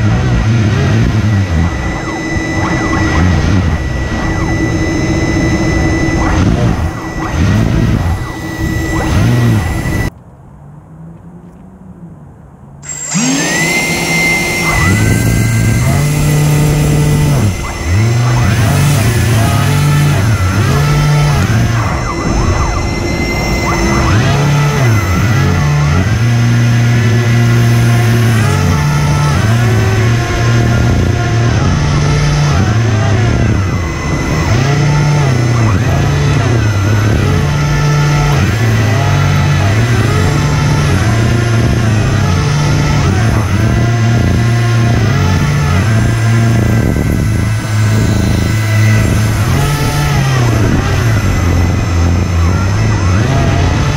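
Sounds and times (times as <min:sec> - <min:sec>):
fans whirring: 0:00.0 - 0:53.9
steady low hum: 0:00.0 - 0:53.9.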